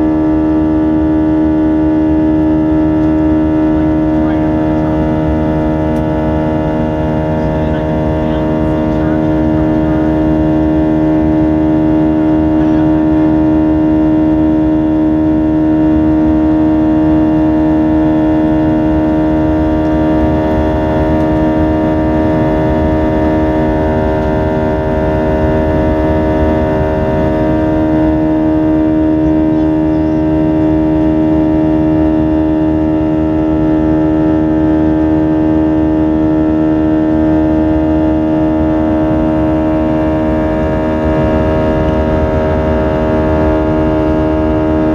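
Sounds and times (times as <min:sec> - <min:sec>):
jet engines droning in cabin: 0:00.0 - 0:44.9.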